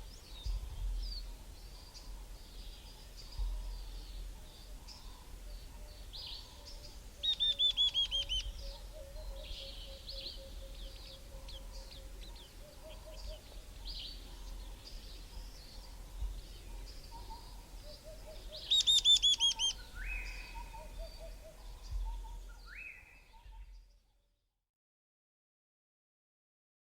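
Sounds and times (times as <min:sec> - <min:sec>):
faint bird chirps: 0:00.1 - 0:24.0.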